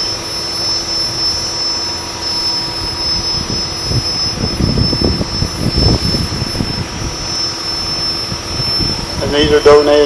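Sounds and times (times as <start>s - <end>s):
turbo whine: 0.0s - 10.0s.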